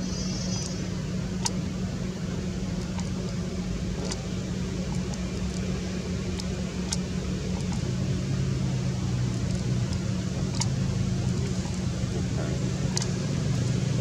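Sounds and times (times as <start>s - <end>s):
low motor drone: 0.0s - 14.0s.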